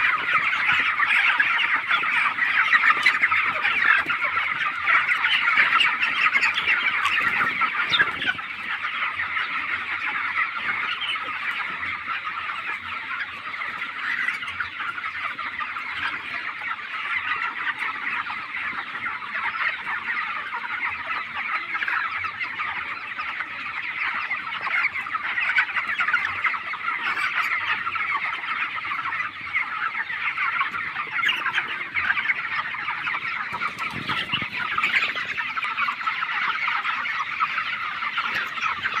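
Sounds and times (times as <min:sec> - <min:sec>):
chickens cheeping and clucking: 0:00.0 - 0:39.0.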